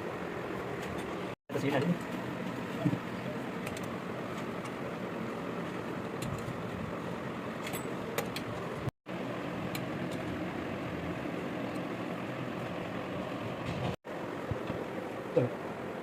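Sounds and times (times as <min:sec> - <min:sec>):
mechanical running hum: 0:00.0 - 0:16.0.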